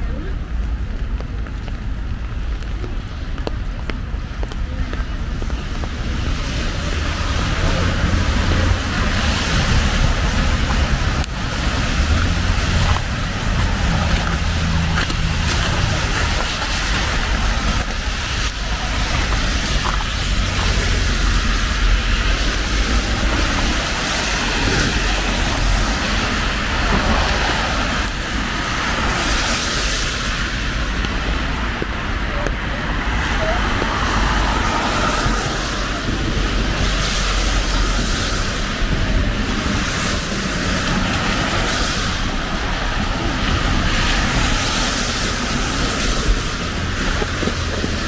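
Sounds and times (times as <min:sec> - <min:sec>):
steady rain: 0:00.0 - 0:48.0
traffic on wet roads: 0:00.0 - 0:48.0.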